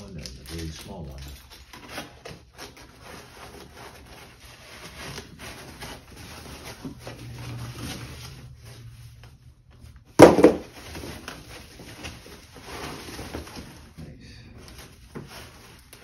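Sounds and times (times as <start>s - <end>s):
packing paper rustling: 0.0s - 16.0s.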